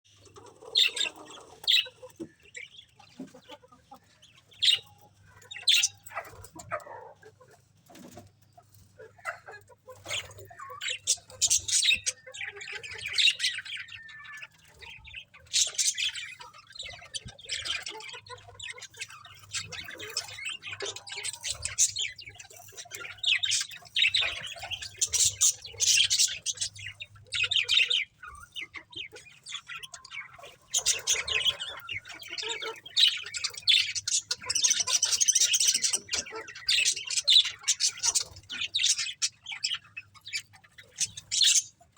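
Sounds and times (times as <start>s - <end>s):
budgerigars chirping: 0.2s - 7.4s, 9.0s - 41.9s.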